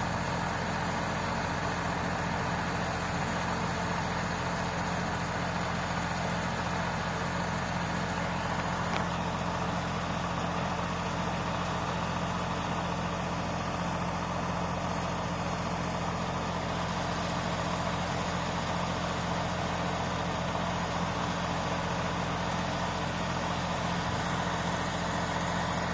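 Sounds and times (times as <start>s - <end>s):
heavy engine idling: 0.0s - 25.9s.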